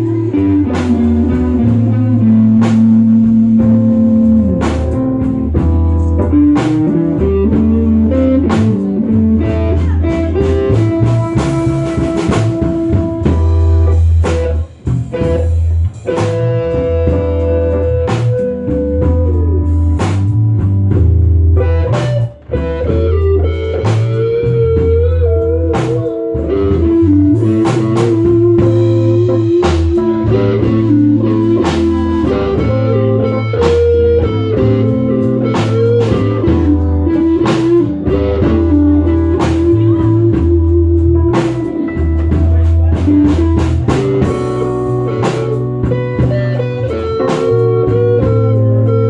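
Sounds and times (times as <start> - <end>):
bass guitar: 0.0 - 49.0
drum kit: 0.0 - 49.0
electric guitar bent notes: 0.0 - 49.0.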